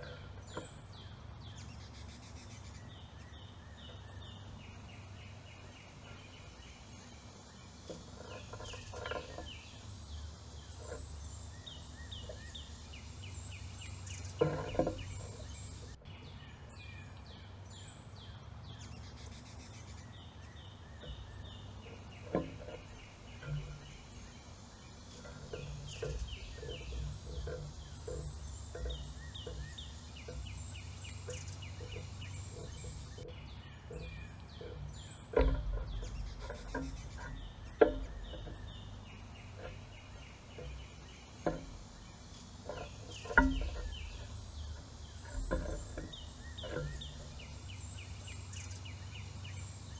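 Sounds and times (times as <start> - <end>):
birds chirping: 0.0 - 49.9
birds tapping on metal pole: 0.0 - 49.9
low steady hum: 0.0 - 49.9.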